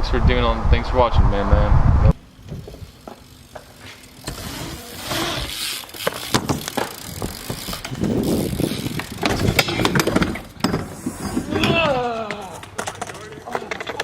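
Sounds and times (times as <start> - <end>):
bike clattering: 2.2 - 14.0.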